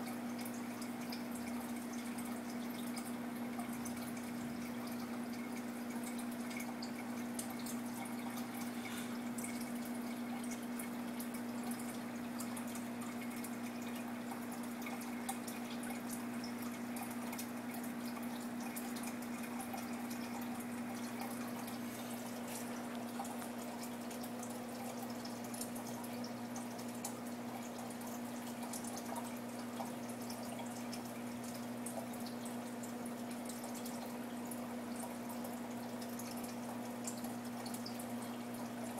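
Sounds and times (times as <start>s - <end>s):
pump humming: 0.0s - 38.9s
water trickling and dripping: 0.0s - 38.9s.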